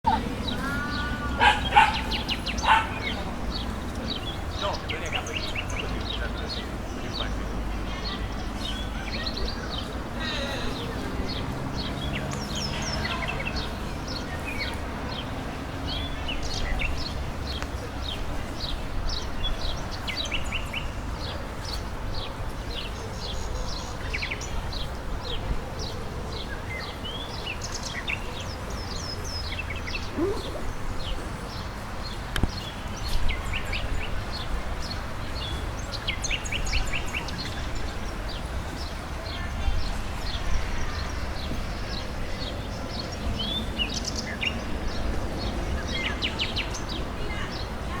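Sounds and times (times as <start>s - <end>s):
small birds chirping and trilling: 0.1s - 48.0s.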